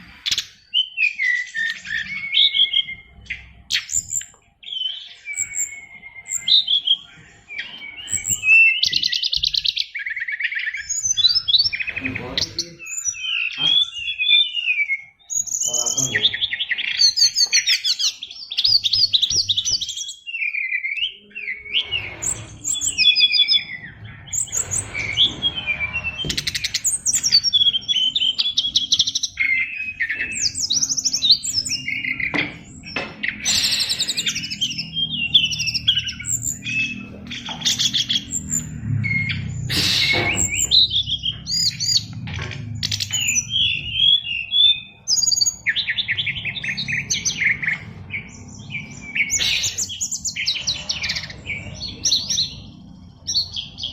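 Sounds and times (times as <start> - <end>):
bird singing varied song: 0.0 - 53.9.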